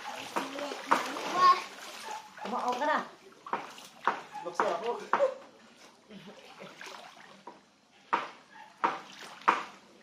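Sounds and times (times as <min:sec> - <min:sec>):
children splashing in water: 0:00.0 - 0:07.4, 0:08.8 - 0:09.9.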